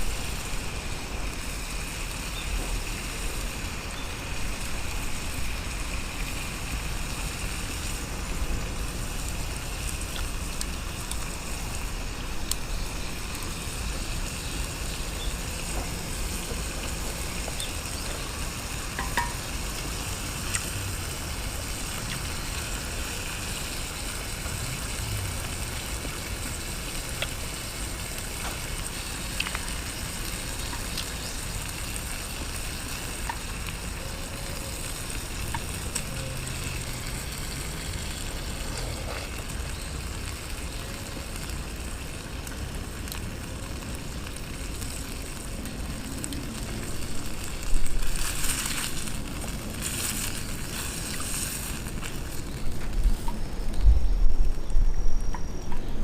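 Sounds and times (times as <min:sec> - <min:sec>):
meat sizzling on a grill: 0:00.0 - 0:56.0.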